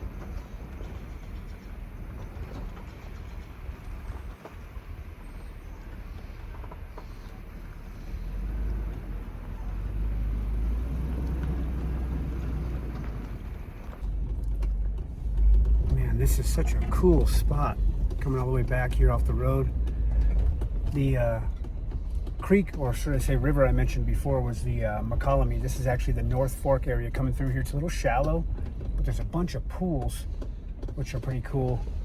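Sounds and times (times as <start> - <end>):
road noise: 0.0 - 32.0
vehicle driving rumble: 0.0 - 32.0.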